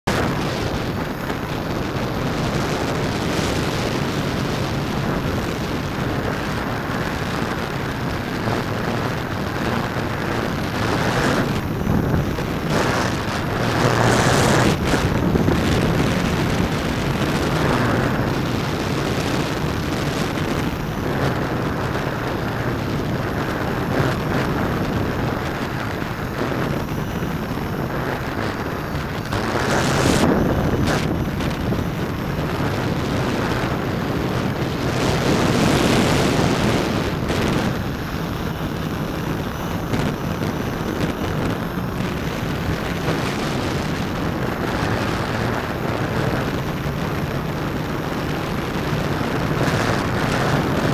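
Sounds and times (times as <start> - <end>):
wind buffeting microphone: 0.0 - 50.9
drone motors and propellers: 0.1 - 50.9.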